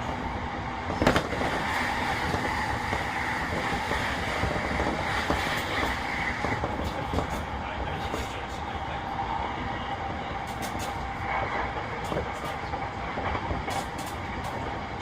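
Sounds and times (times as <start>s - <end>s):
train rumble and rail noise: 0.0s - 15.0s.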